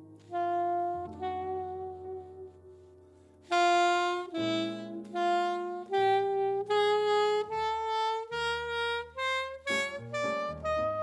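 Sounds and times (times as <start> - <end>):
alto saxophone melody: 0.0 - 11.0
piano chords: 0.0 - 11.0.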